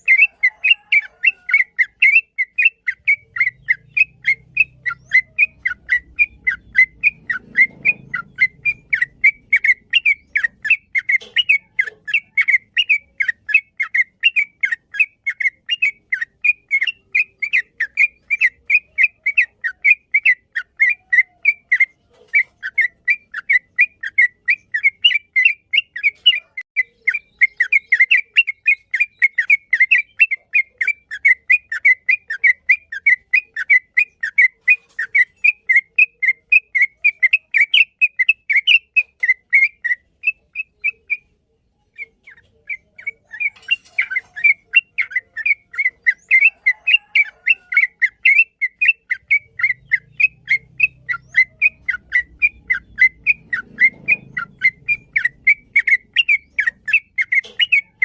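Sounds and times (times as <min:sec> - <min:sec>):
bird singing whistled chirps: 0:00.0 - 0:58.0.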